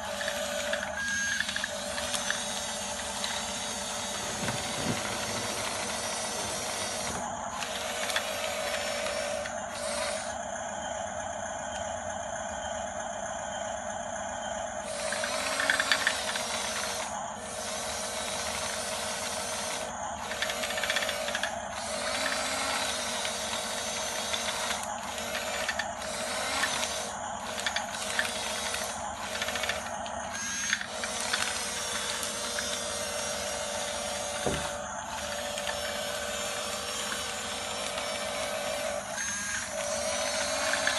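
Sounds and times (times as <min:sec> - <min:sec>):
toy bulldozer motors whirring: 0:00.0 - 0:13.0, 0:13.6 - 0:40.9.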